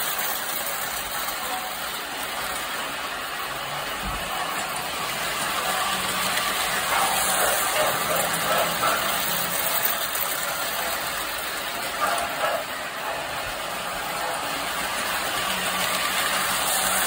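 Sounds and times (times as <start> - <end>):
toy train rattling on track: 0.0 - 17.0.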